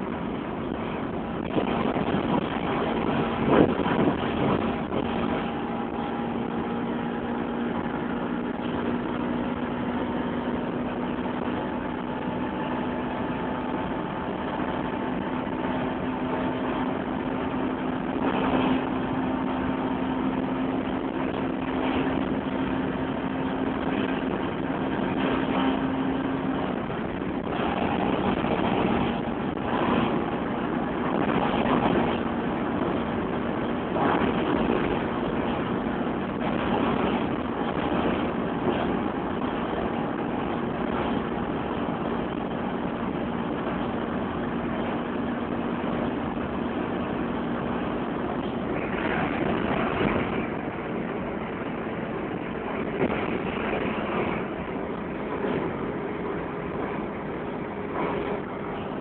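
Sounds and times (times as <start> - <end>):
car engine drone: 0.0 - 59.0
wind and road noise: 0.0 - 59.0.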